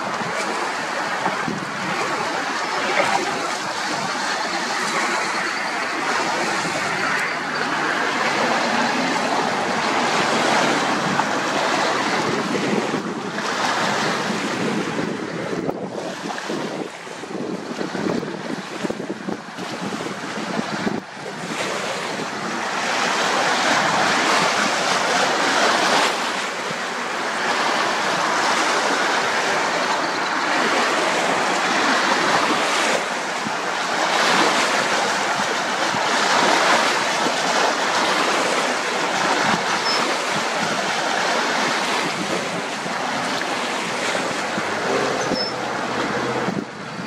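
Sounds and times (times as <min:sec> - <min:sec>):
water splashing over rocks: 0:00.0 - 0:47.0
wind on microphone: 0:00.0 - 0:47.0.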